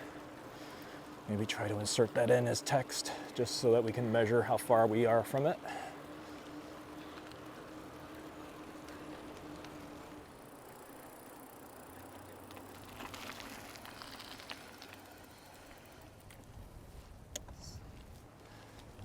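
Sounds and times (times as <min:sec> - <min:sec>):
bicycle tyre and drivetrain noise: 0:00.0 - 0:19.0.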